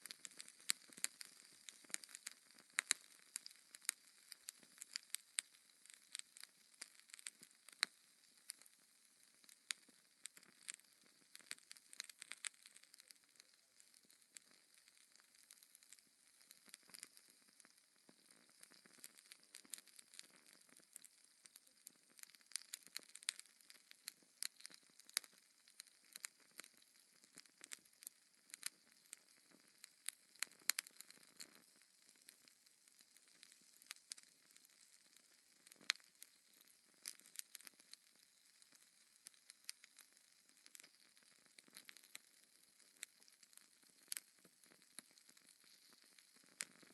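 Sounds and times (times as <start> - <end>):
burning logs crackling: 0.0 - 8.7, 9.4 - 25.3, 26.1 - 42.2, 42.9 - 46.9.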